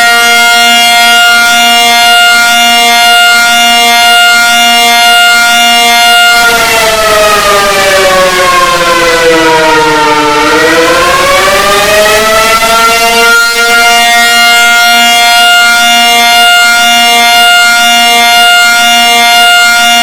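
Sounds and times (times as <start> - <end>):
loud emergency alert siren: 0.0 - 20.0.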